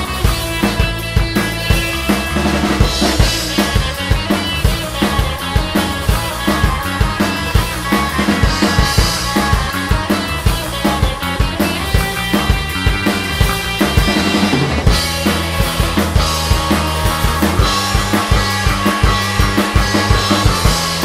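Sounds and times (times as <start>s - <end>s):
punk rock song: 0.0s - 21.0s.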